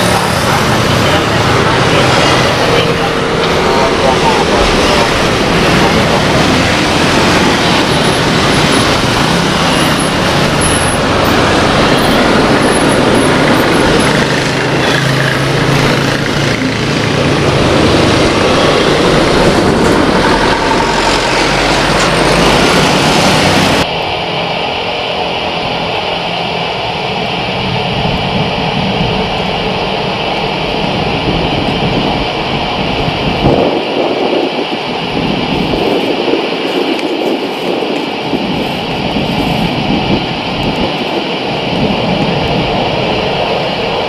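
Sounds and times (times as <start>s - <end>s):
loud jet engines taxiing: 0.0s - 44.0s
quieter jet engine: 0.0s - 44.0s.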